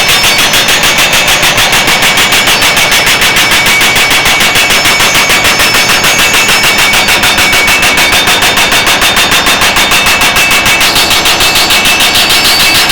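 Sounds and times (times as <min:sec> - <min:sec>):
hydraulic breaker hammering: 0:00.0 - 0:12.9.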